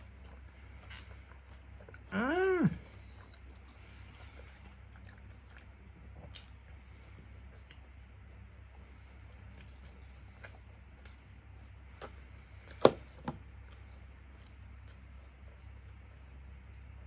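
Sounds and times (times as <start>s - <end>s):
faint chewing: 0.0s - 16.4s
low steady hum: 0.0s - 17.0s.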